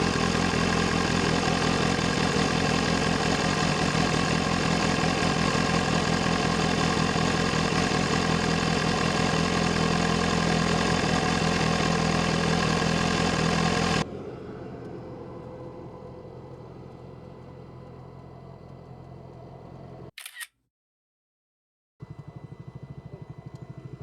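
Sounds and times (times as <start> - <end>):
motorcycle engine running: 0.0 - 20.1, 22.0 - 24.0.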